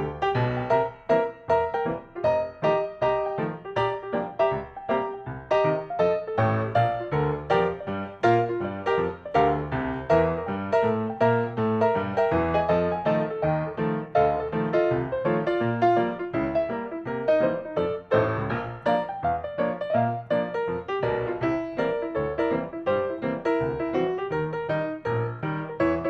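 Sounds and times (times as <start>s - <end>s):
piano playing: 0.0s - 26.0s.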